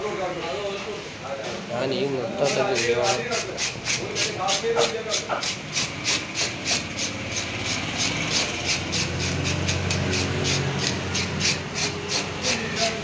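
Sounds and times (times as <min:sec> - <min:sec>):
fish scaler scraping scales: 0:02.3 - 0:13.0.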